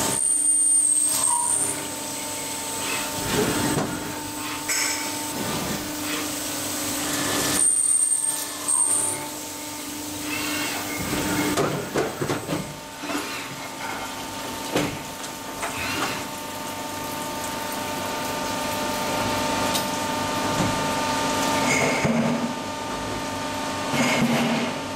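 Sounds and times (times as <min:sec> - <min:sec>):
metal-working machine humming: 0:00.0 - 0:24.9.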